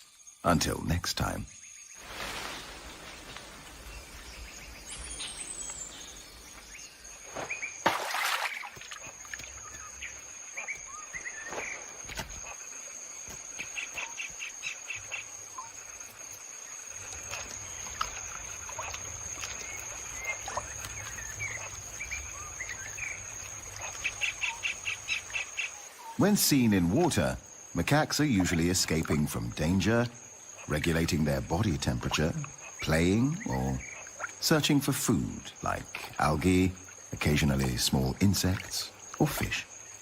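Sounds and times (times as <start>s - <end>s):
high-pitched insect whine: 0.0s - 40.0s.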